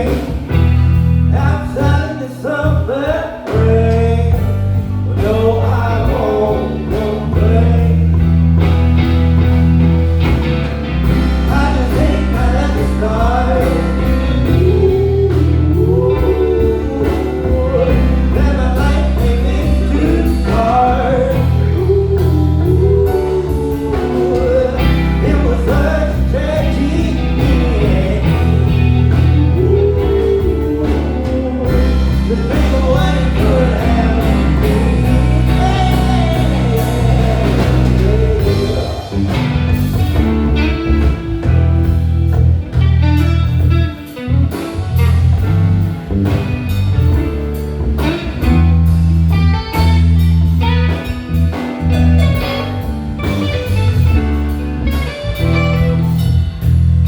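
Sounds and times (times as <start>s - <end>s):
live band playing soul-blues: 0.0s - 57.0s.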